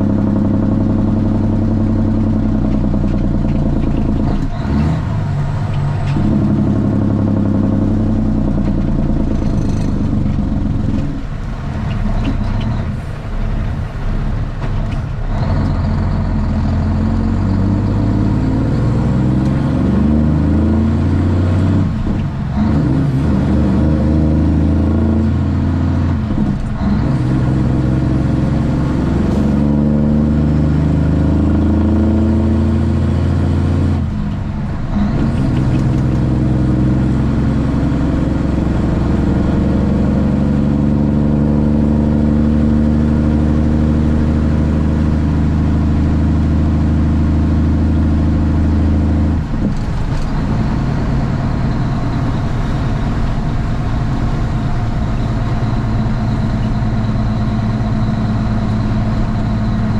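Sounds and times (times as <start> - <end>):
diesel truck engine pulling: 0.0 - 59.9.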